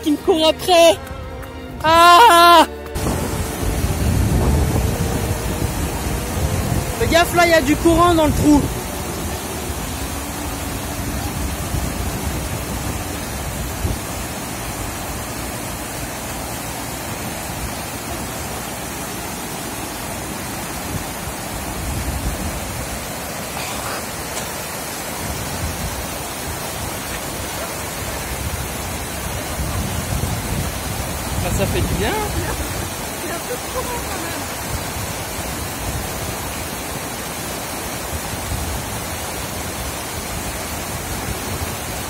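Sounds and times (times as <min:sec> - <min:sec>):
mountain torrent rushing over rocks: 0:00.0 - 0:42.0.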